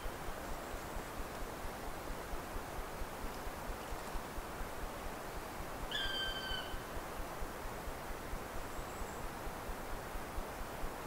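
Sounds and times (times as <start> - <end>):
wind in forest: 0.0 - 11.0.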